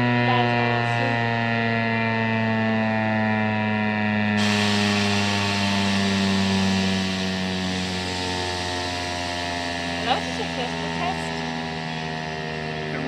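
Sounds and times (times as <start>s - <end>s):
warning siren winding down: 0.0s - 13.0s.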